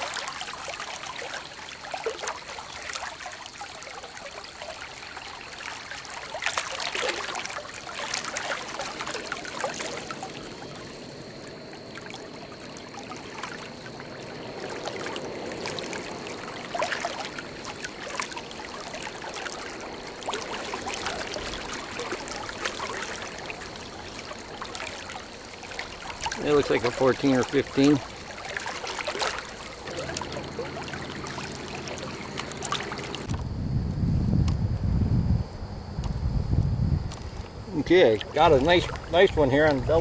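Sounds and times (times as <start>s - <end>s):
small water splashes: 0.0s - 33.4s, 37.1s - 40.0s
river water trickling: 0.0s - 33.5s, 36.8s - 40.0s.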